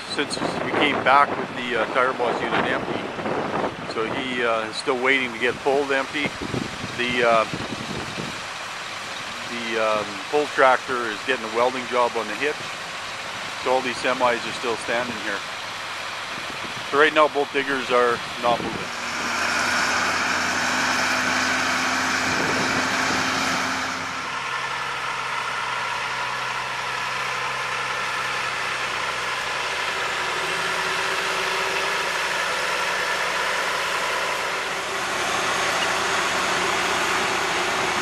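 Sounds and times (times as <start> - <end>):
truck diesel engine idling: 0.0 - 38.0.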